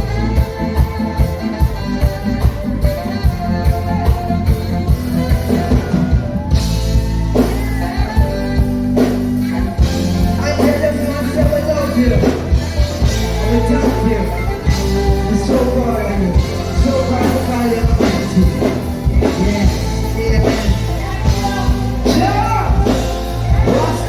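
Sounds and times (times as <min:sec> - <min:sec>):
heavy bass line: 0:00.0 - 0:24.0
reggae band playing: 0:00.0 - 0:24.0
person singing: 0:02.8 - 0:24.0.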